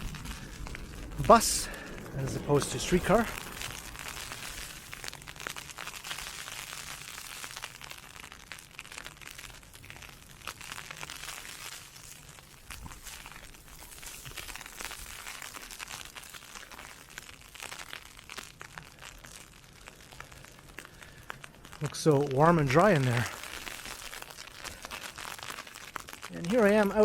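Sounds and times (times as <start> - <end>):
hiss of wind-driven sleet: 0.0 - 8.7, 9.4 - 18.1, 18.7 - 27.0
ice pellets pelting an umbrella: 0.0 - 27.0.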